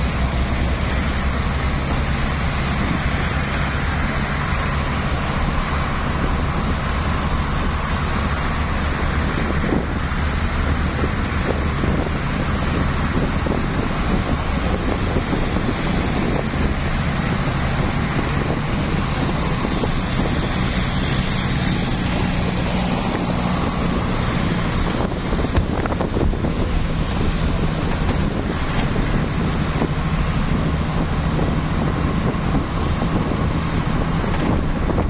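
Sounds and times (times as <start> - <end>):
highway traffic noise: 0.0 - 35.0
low engine hum: 0.0 - 35.0
wind buffeting microphone: 0.0 - 35.0.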